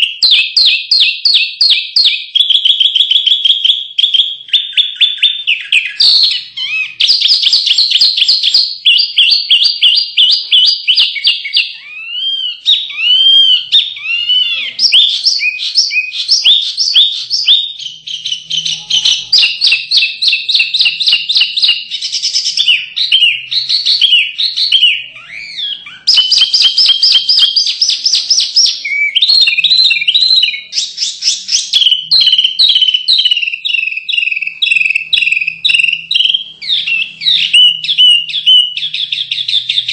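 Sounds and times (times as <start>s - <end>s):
songbirds trilling and chattering: 0.0s - 39.9s.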